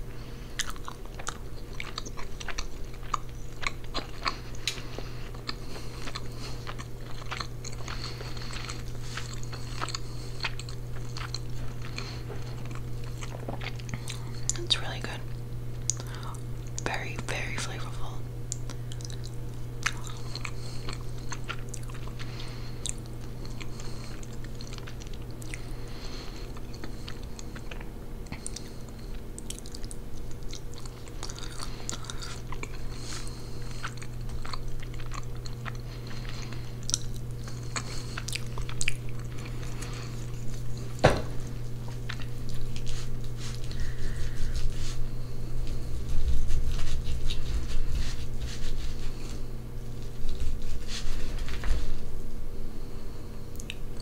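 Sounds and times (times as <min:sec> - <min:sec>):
steady low hum: 0:00.0 - 0:54.0
chewing and biting: 0:00.5 - 0:14.6, 0:18.5 - 0:50.4.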